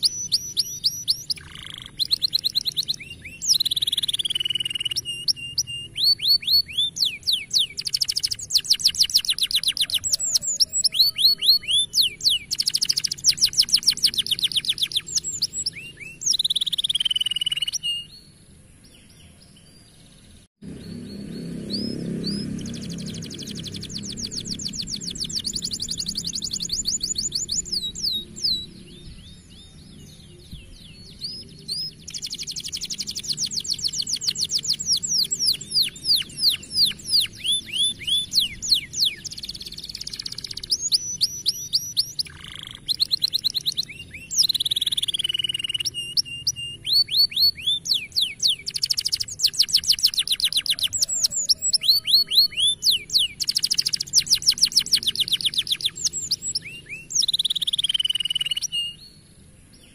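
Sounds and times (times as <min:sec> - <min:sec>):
canary singing trills: 0:00.0 - 0:18.4, 0:19.0 - 0:59.9.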